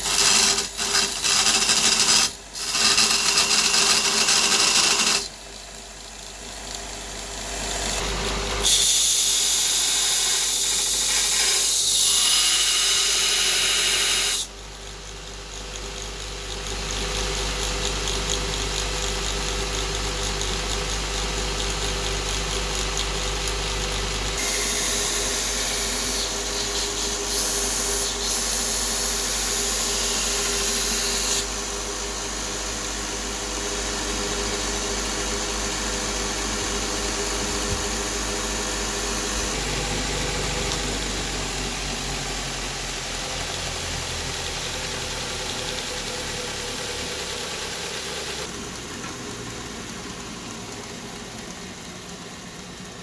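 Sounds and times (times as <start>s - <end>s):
electric grinder motor running: 0.0s - 5.4s, 6.0s - 14.5s, 16.5s - 53.0s.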